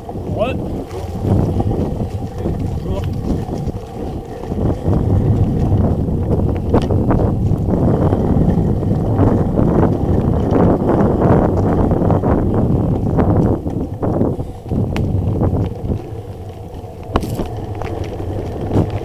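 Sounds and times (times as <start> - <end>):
bike rattling and knocking: 0.0 - 19.0
wind buffeting microphone: 0.0 - 19.0.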